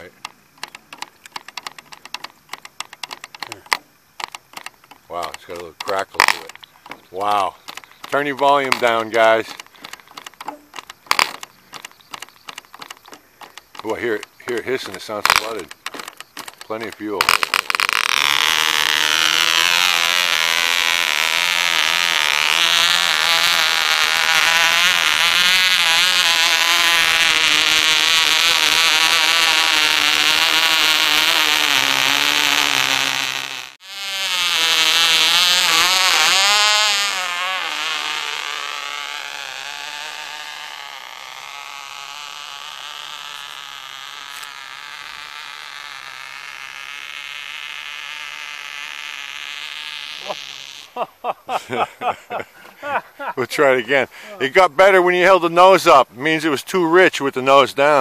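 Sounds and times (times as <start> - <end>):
model engine high buzz: 0.0 - 58.0.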